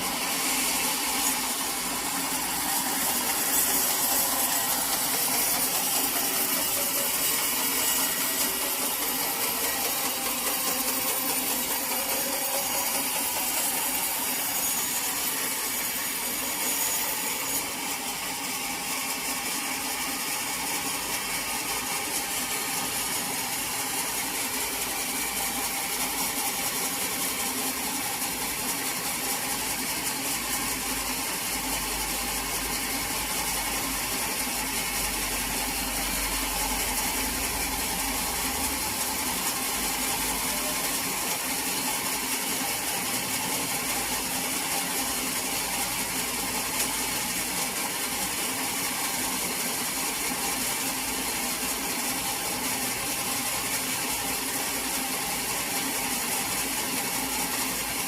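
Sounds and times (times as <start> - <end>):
sawmill machinery rattling: 0.0 - 58.0.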